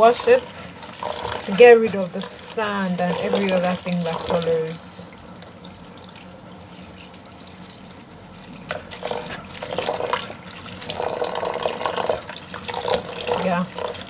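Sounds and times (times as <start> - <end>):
tap water running into basin: 0.0 - 14.0.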